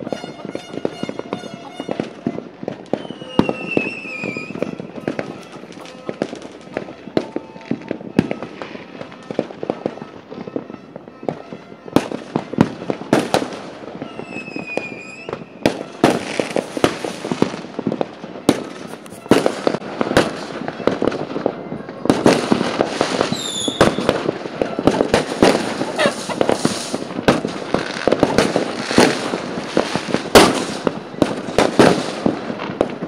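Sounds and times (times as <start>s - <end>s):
fireworks bangs and crackling: 0.0s - 33.0s
whistling firework: 0.0s - 33.0s.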